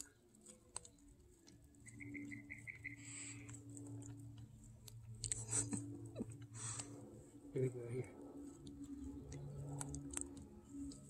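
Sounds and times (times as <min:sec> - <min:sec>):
dog teeth crunching corn: 0:00.0 - 0:07.2, 0:08.2 - 0:11.0
steady low hum: 0:00.0 - 0:11.0.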